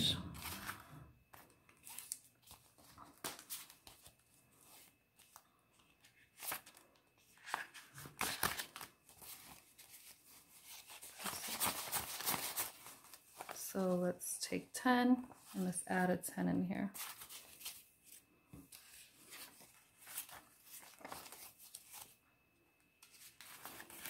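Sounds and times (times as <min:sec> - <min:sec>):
paper banknotes rustling: 0:00.4 - 0:13.6, 0:16.9 - 0:22.2, 0:23.0 - 0:24.0
plastic envelopes crinkling: 0:00.4 - 0:13.8, 0:16.9 - 0:22.2, 0:23.0 - 0:24.0.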